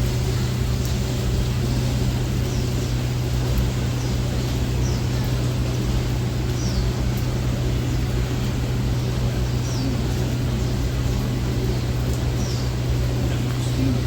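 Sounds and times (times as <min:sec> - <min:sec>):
constant low hum: 0:00.0 - 0:14.0
train rolling rumble: 0:00.0 - 0:14.0.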